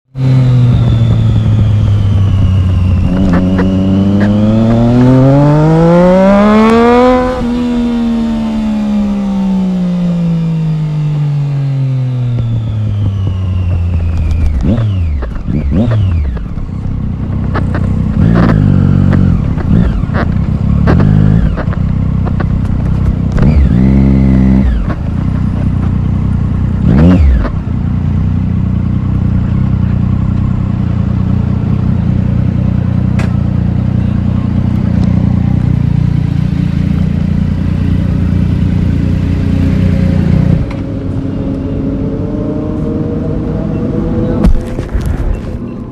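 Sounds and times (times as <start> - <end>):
motorcycle engine revving: 0.1 - 45.9.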